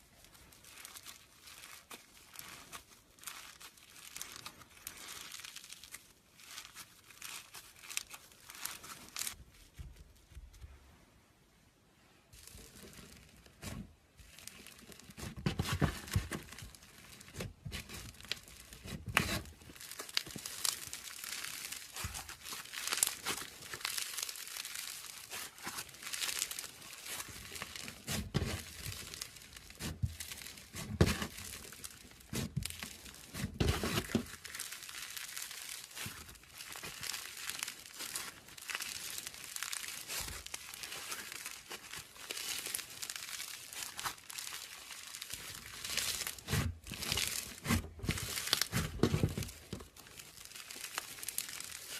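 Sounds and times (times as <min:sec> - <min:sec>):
crunchy slime crackling: 0:00.0 - 0:09.4, 0:12.3 - 0:51.9.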